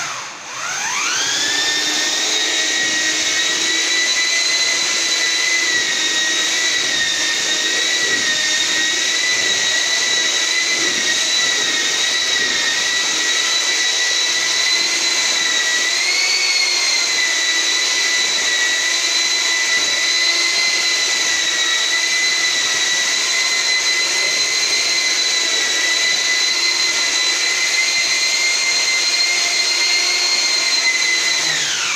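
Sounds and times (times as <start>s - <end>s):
electric mixer whining: 0.0s - 31.9s.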